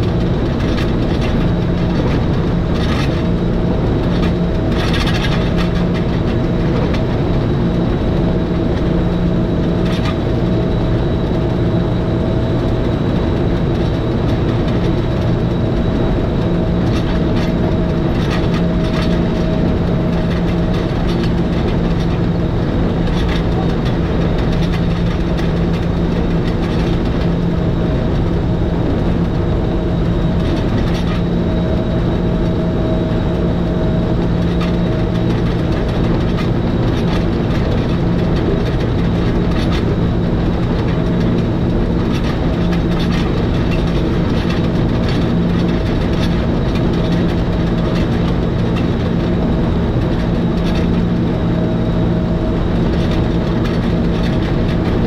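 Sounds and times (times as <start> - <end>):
train mechanical hum and gear whine: 0.0 - 55.0
wheels clicking on track: 0.0 - 55.0.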